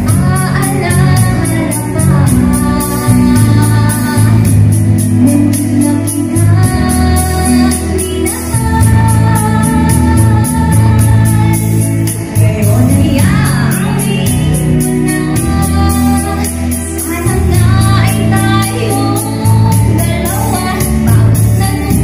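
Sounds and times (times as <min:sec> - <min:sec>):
amplified backing music with beat: 0:00.0 - 0:22.0
woman singing into microphone: 0:00.0 - 0:22.0.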